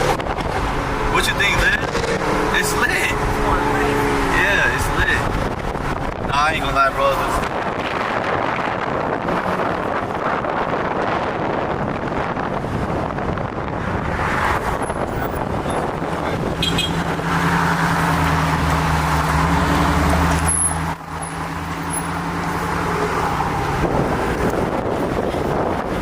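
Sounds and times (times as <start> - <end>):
car engine droning: 0.0 - 26.0
wind and road noise: 0.0 - 26.0.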